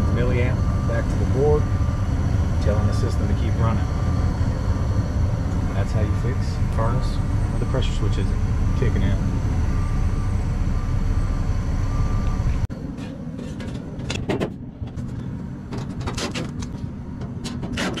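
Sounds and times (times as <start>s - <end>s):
gas furnace rumbling: 0.0s - 18.0s.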